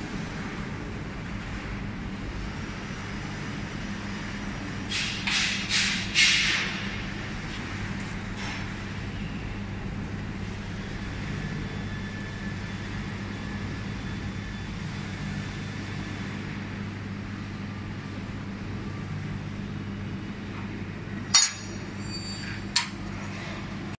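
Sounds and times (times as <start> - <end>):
low machinery hum: 0.0 - 23.9.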